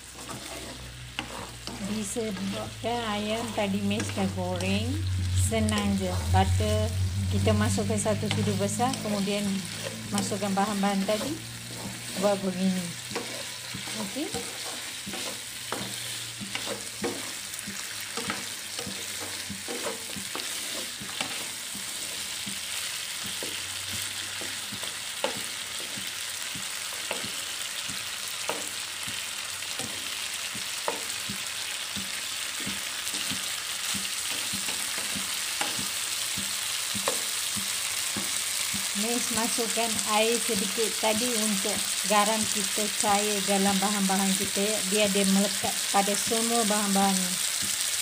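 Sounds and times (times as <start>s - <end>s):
wooden spatula scraping pan: 0.0s - 40.8s
food sizzling in a pan: 0.0s - 48.0s.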